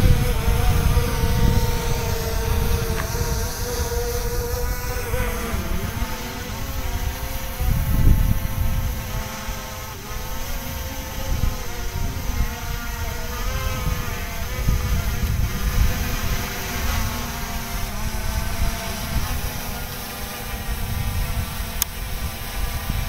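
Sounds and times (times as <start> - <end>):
drone propellers buzzing: 0.0 - 23.0
wind rumbling on microphone: 0.0 - 23.0.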